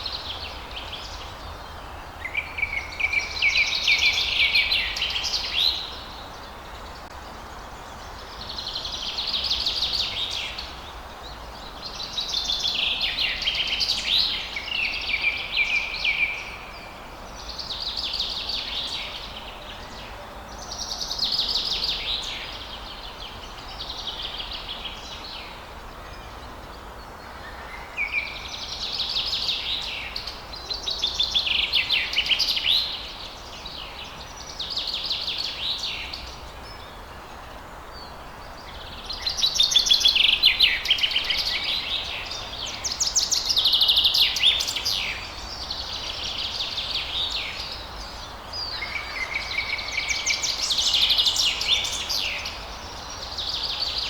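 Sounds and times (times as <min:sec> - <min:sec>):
background hiss: 0:00.0 - 0:54.0
songbirds singing: 0:00.0 - 0:54.0.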